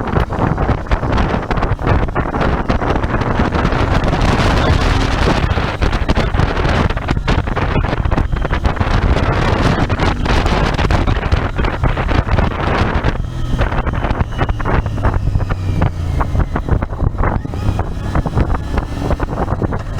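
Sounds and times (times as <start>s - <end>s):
motorcycle engine running: 0.0s - 19.9s
wind buffeting microphone: 0.0s - 19.9s.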